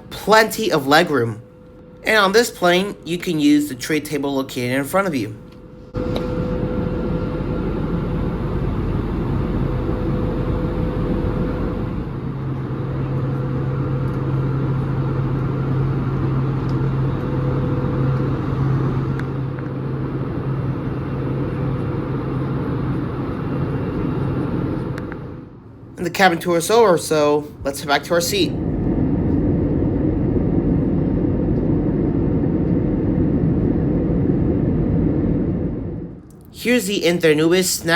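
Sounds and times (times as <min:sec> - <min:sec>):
aircraft cabin drone: 0:00.0 - 0:37.9
strong low hum: 0:00.0 - 0:37.9.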